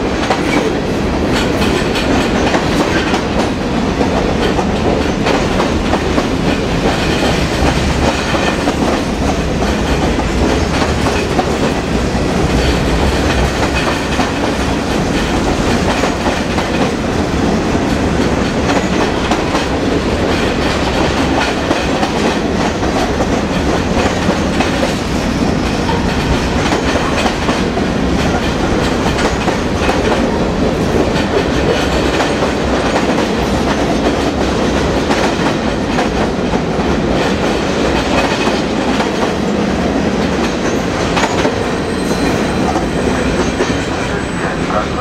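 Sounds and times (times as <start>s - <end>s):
train wheels clacking on rails: 0.0s - 45.0s.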